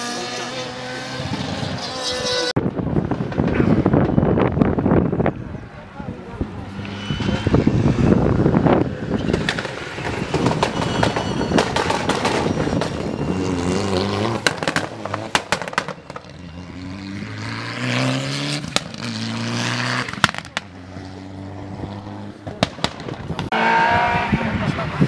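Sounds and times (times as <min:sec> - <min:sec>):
rally car engine revving: 0:00.0 - 0:02.6, 0:06.4 - 0:25.0.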